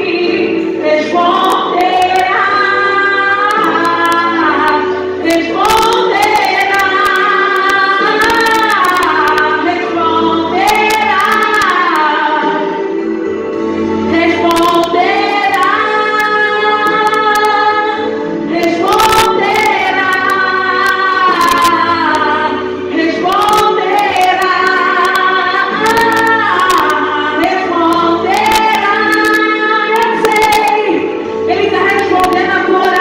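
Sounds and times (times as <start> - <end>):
woman singing: 0.0 - 13.1, 14.0 - 33.0.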